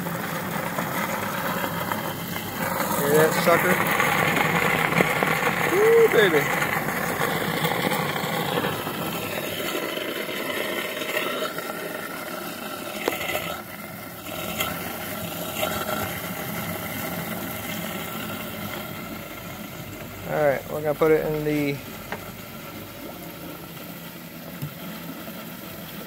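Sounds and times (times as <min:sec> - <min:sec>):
water and air bubbles churning: 0:00.0 - 0:26.0.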